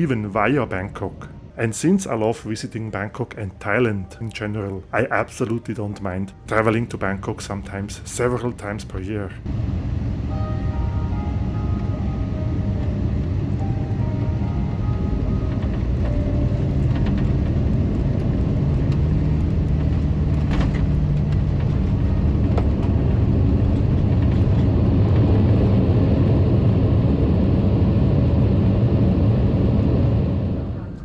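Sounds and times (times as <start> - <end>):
jet engine and airflow rumble: 0.0 - 31.0.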